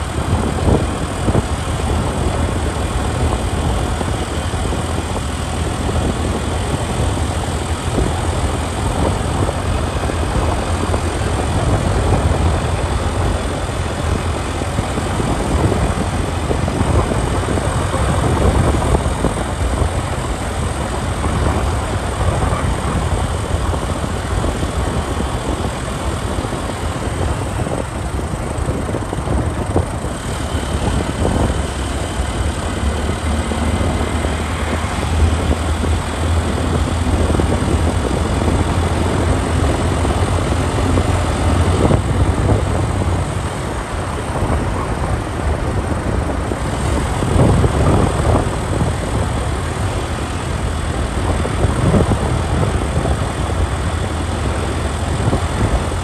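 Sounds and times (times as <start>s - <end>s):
motorbike engine running: 0.0s - 56.0s
road and wind noise: 0.0s - 56.0s.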